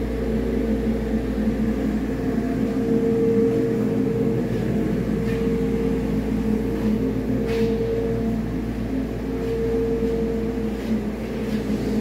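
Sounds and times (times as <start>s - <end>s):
constant whine: 0.0s - 12.0s
diesel engine running: 0.0s - 12.0s.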